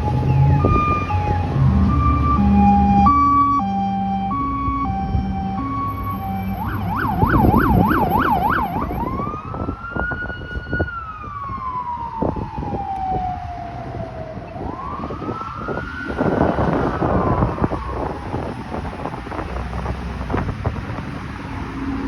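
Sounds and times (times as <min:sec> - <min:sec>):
deep low siren tone: 0:00.0 - 0:20.5
police siren changing tones: 0:00.0 - 0:20.5.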